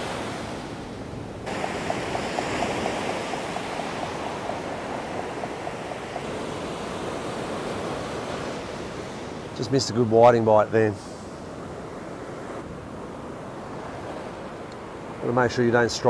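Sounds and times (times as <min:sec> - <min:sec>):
surf washing: 0:00.0 - 0:16.0.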